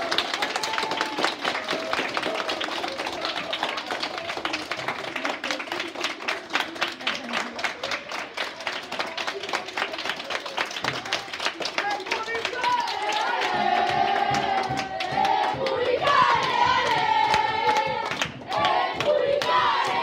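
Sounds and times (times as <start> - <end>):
children applauding: 0.0 - 20.0.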